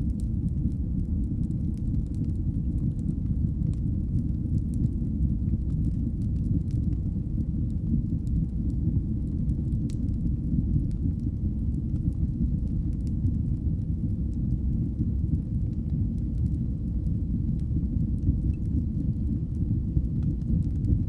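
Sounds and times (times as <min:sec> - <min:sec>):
faint fire crackles and pops: 0:00.0 - 0:21.0
fire rumbling in a fireplace: 0:00.0 - 0:21.0.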